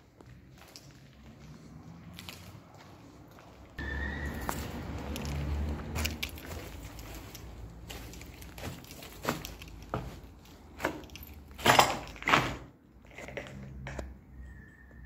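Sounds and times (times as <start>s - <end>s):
footsteps crunching over rubble: 0.0s - 12.8s.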